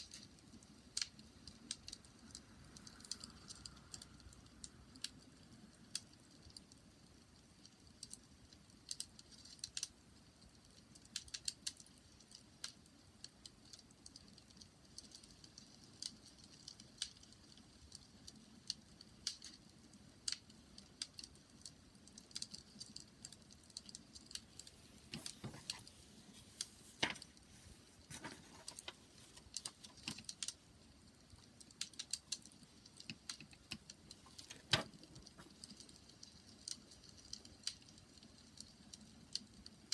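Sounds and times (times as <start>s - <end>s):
faint low hiss: 0.0s - 39.9s
wood fire crackling: 0.0s - 39.9s.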